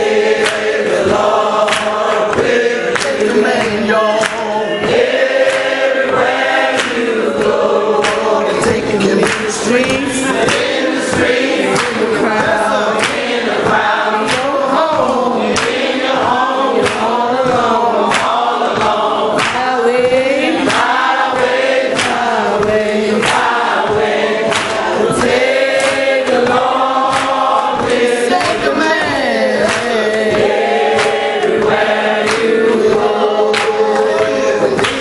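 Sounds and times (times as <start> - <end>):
congregation singing a hymn: 0.0 - 35.0.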